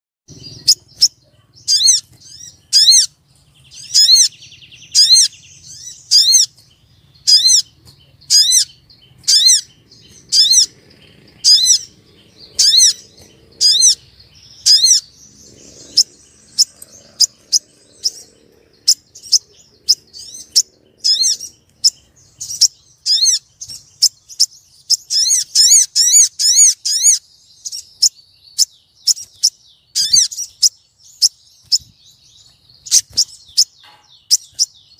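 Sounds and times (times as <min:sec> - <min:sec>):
bird calling high-pitched notes: 0:00.3 - 0:32.0.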